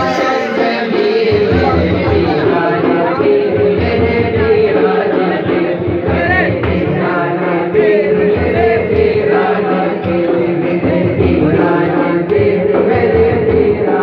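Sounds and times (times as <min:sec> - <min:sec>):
frame drum beat: 0:00.0 - 0:13.8
men singing into microphones: 0:00.0 - 0:14.0.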